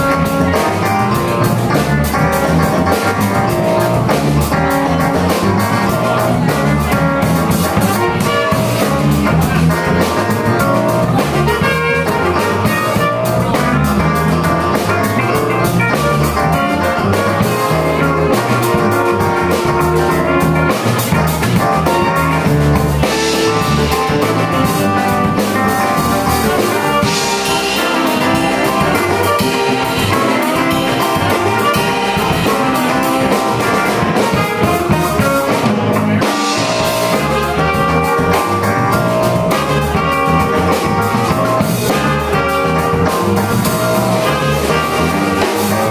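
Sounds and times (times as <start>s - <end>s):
drum kit: 0.0s - 45.9s
horn section playing: 0.0s - 45.9s.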